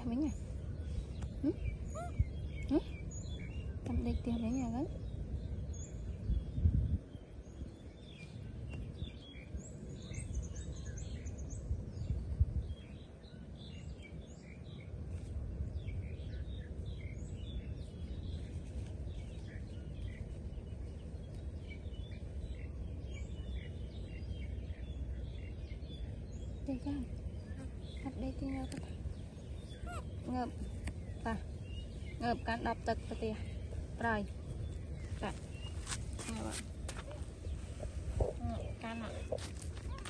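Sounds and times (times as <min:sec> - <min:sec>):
birds chirping: 0:00.0 - 0:40.0
low steady rumble: 0:00.0 - 0:40.0.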